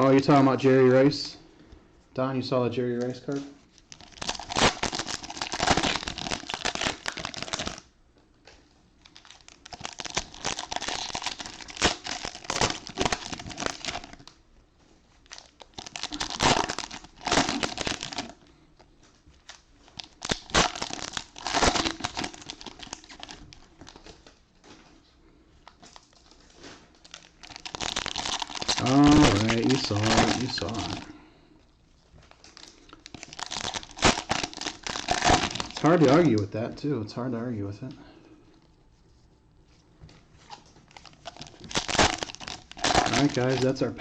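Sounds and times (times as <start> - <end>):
plastic wrappers crinkling and tearing: 3.1 - 7.9, 8.5 - 25.0, 25.6 - 36.5, 39.8 - 44.0.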